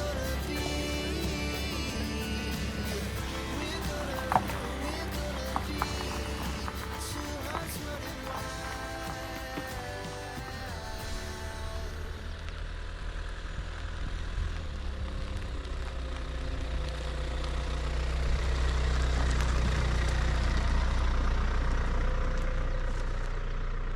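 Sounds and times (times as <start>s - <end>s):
vehicle engine rumbling: 0.0s - 23.9s.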